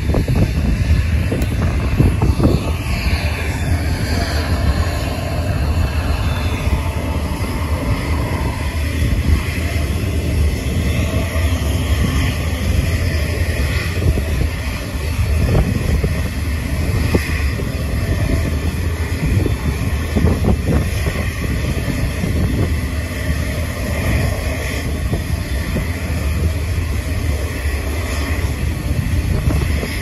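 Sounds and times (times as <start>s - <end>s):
jet engines low rumble: 0.0s - 30.0s
wind buffeting microphone: 0.0s - 30.0s.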